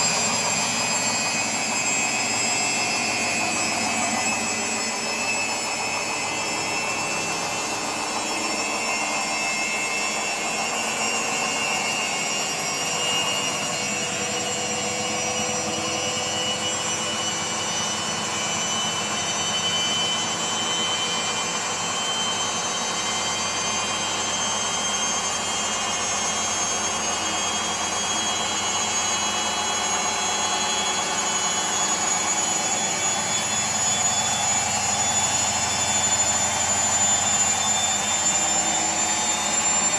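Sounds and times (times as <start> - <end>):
motor whine: 0.0 - 39.9
washing machine spinning: 0.0 - 39.9.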